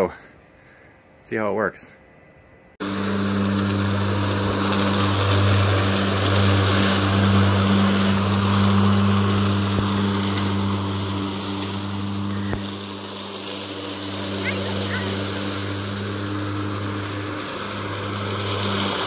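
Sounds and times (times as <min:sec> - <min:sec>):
air and leaves rushing through chute: 0:02.8 - 0:19.0
electric mower hum: 0:02.8 - 0:19.0.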